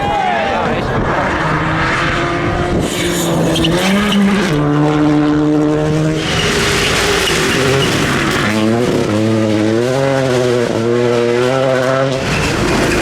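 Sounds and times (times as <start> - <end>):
rally car engine revving: 0.6 - 13.0.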